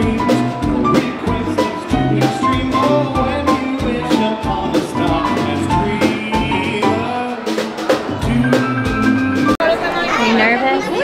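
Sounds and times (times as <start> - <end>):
man singing: 0.0 - 9.6
live band playing: 0.0 - 11.0.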